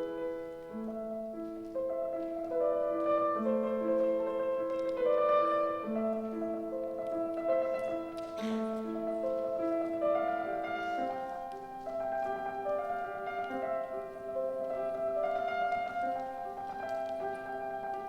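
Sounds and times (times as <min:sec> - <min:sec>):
solo classical piano: 0:00.0 - 0:18.0.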